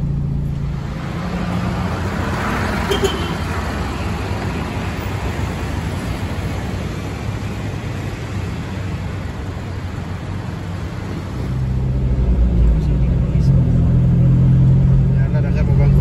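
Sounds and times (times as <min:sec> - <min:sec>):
road noise low rumble and hiss: 0:00.0 - 0:16.0.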